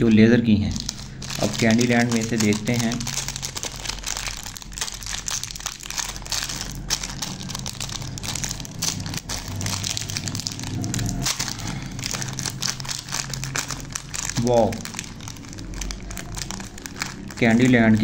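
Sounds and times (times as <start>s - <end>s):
plastic wrappers crinkling and tearing: 0.5s - 18.0s.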